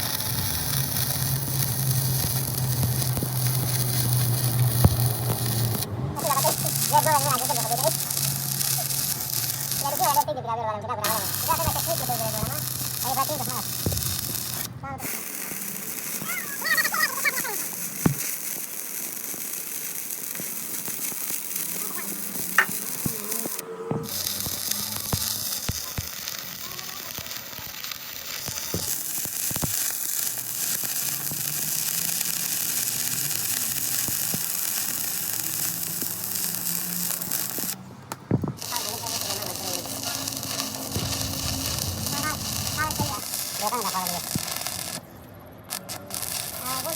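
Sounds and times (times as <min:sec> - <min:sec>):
electric arc welding crackle: 0:00.0 - 0:10.4, 0:11.0 - 0:46.9.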